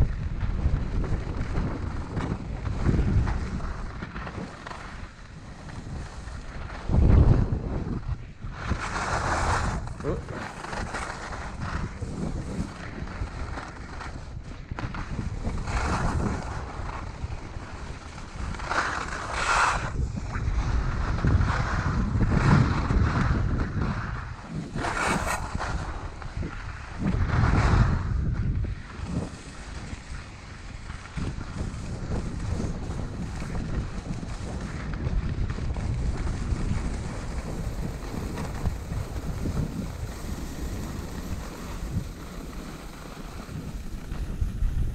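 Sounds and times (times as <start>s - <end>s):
skis scraping over snow: 0.0s - 44.9s
wind buffeting microphone: 0.0s - 44.9s.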